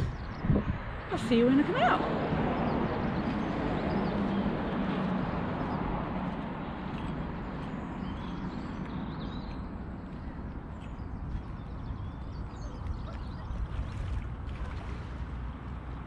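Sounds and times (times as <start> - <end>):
outdoor background rumble: 0.0 - 16.0.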